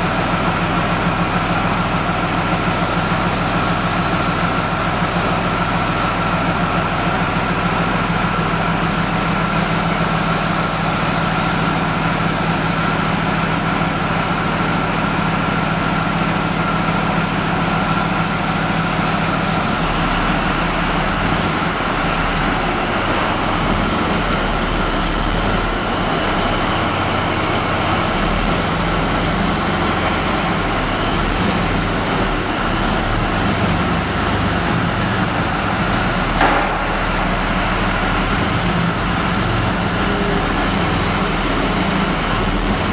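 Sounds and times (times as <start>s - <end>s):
tank diesel engine running: 0.0s - 42.9s.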